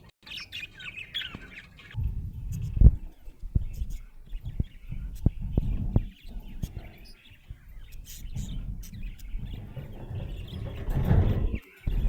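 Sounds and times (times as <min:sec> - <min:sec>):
budgerigar chirping and twittering: 0:00.2 - 0:12.0
low rumbling noise: 0:02.0 - 0:12.0.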